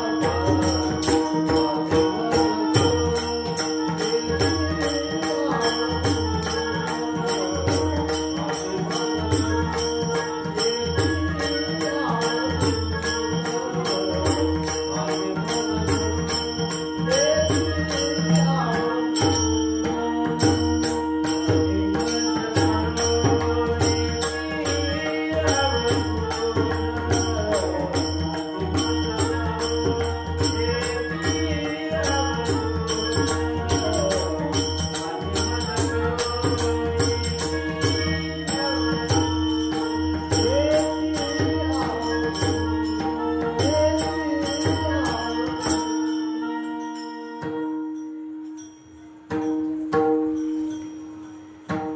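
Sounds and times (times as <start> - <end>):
person singing: 0.0 - 48.0
jingling percussion: 0.0 - 51.9.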